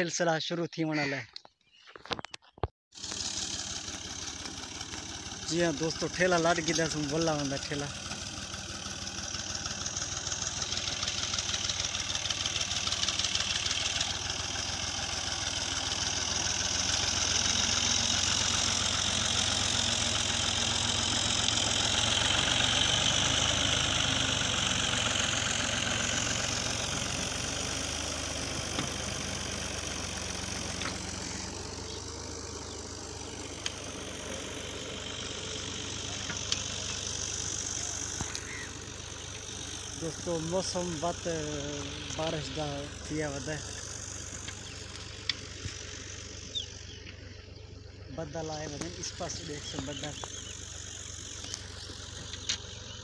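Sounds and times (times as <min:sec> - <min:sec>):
tractor diesel engine passing: 0:03.0 - 0:53.0.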